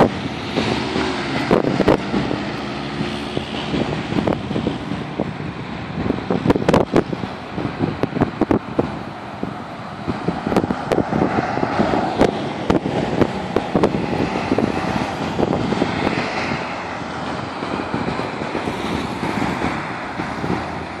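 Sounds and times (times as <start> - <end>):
pickup truck passing: 0.0 - 21.0
road traffic driving past: 0.0 - 21.0.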